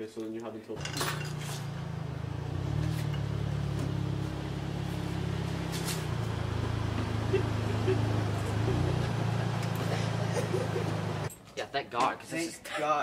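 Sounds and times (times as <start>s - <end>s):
car engine idling: 0.8s - 11.3s.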